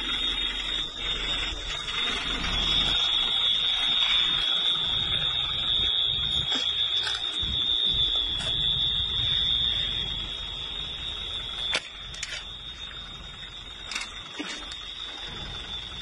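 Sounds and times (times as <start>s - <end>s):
high-pitched alarm tone: 0.0s - 16.0s
low rumbling noise: 0.0s - 16.0s.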